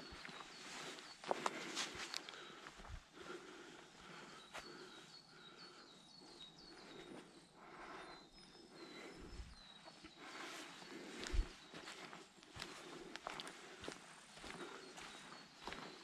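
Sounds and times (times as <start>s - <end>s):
faint bird song: 0.0s - 16.0s.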